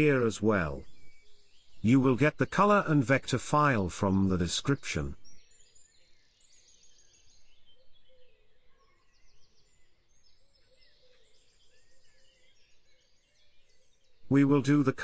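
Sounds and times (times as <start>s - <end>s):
faint dawn chorus of birds: 0.0s - 15.0s.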